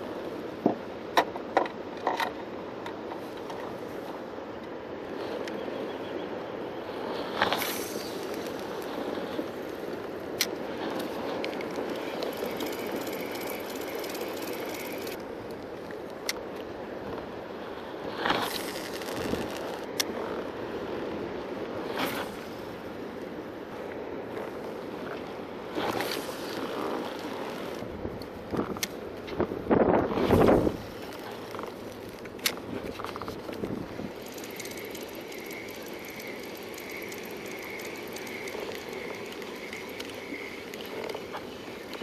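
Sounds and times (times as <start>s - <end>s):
wind: 0.0s - 42.0s
water washing around kayak: 6.6s - 42.0s.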